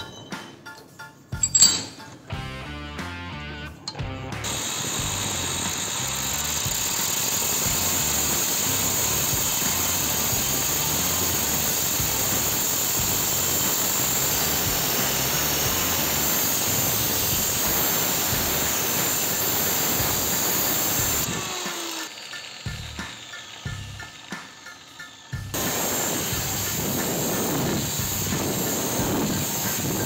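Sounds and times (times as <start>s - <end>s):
angle grinder cutting steel pipe: 3.8s - 30.0s.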